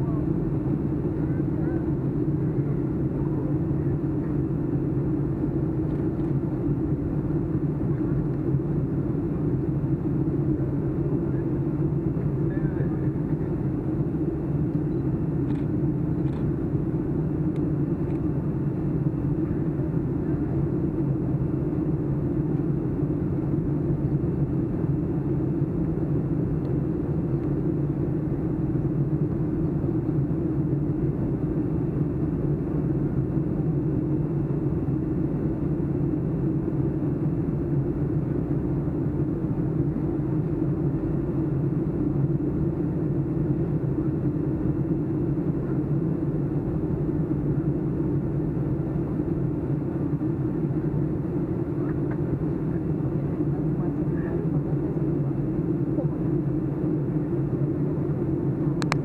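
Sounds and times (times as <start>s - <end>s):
airplane cabin drone: 0.0s - 59.0s.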